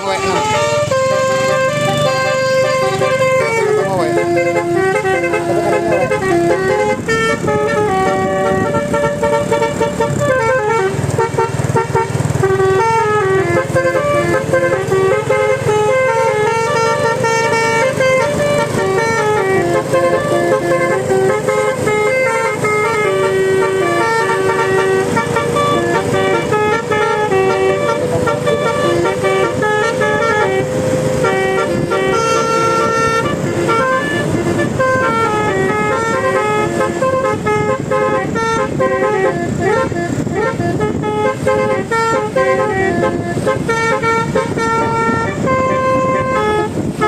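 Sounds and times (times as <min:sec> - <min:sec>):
musical bus horn playing a tune: 0:00.0 - 0:47.0.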